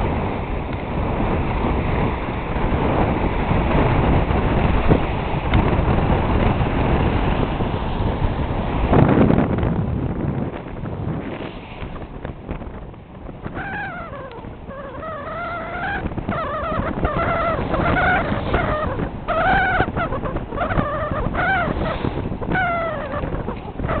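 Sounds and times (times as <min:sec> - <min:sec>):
high wavering whine: 0:00.0 - 0:24.0
wind and water rushing: 0:00.0 - 0:24.0.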